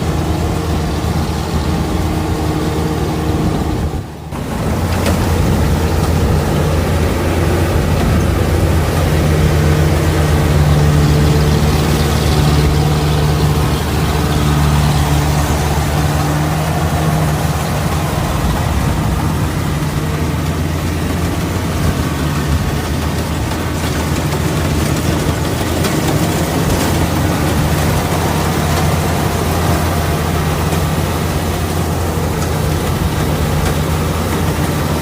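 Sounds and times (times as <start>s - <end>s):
combine harvester engine running: 0.0s - 35.0s.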